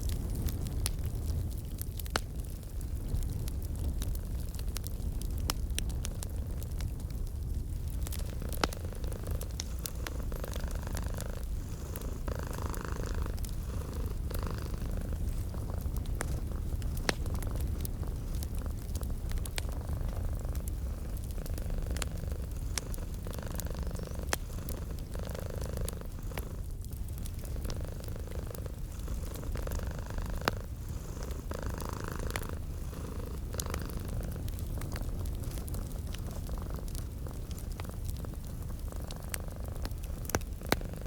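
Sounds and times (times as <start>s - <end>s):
wood fire crackling: 0.0s - 41.0s
cat purring: 7.8s - 41.0s.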